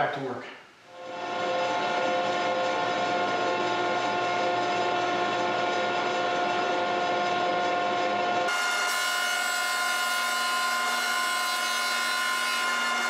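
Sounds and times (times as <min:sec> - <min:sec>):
jointer running with whine: 0:01.0 - 0:13.0.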